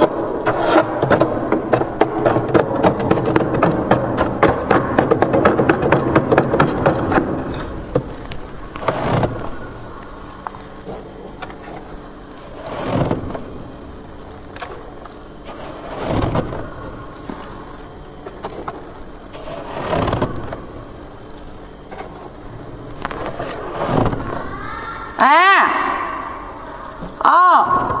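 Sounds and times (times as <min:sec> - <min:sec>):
frost ice crunching: 0:00.1 - 0:25.2.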